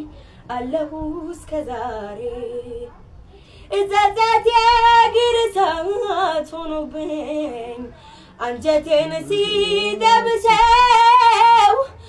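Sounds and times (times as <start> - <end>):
girl singing unaccompanied: 0.0 - 2.9, 3.7 - 12.0.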